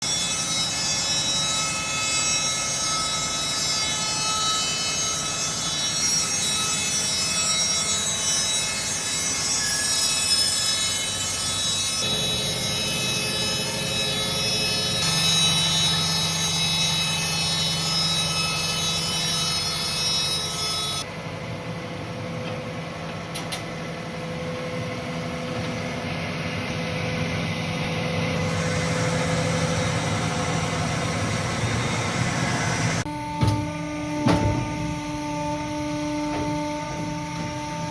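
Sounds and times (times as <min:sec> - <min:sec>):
bandsaw humming and whining: 0:00.0 - 0:37.9.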